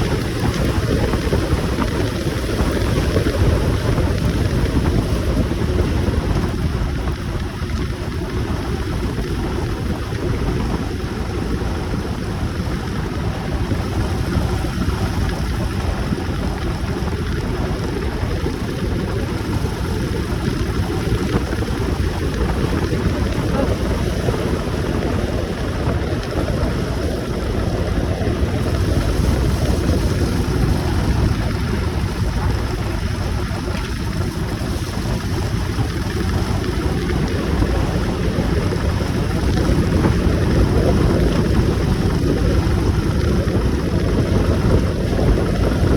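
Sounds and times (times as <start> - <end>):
motorcycle engine and road noise: 0.0 - 45.9
wind buffeting microphone: 0.0 - 45.9.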